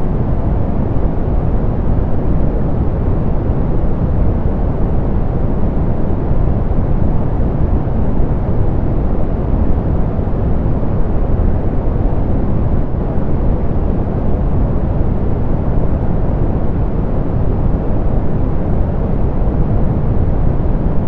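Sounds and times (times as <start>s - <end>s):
muffled pink noise: 0.0s - 21.0s.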